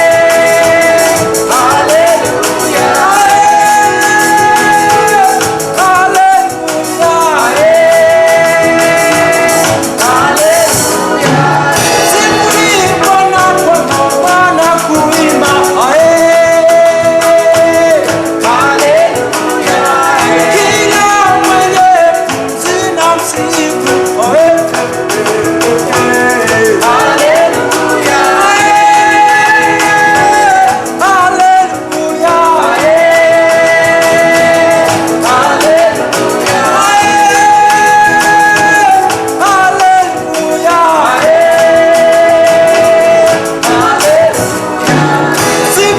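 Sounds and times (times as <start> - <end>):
instrumental backing: 0.0 - 45.9
steady percussion: 0.0 - 45.9
voices singing gospel: 0.0 - 45.9.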